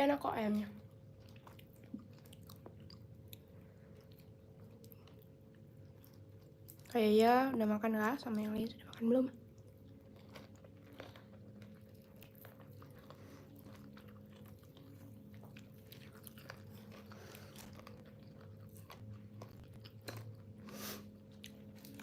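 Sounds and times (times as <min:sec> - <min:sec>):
chewing and biting food: 0:00.5 - 0:07.0, 0:08.8 - 0:22.0.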